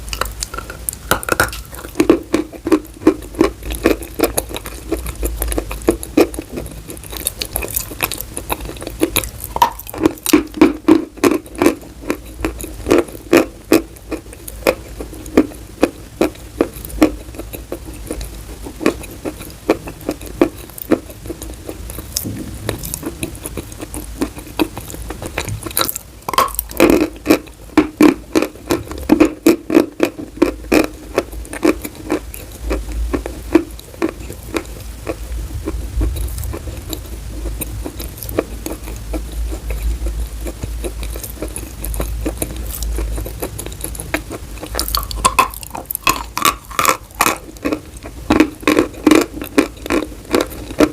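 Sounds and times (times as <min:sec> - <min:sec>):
chalk crunching while chewed: 0:00.0 - 0:50.9.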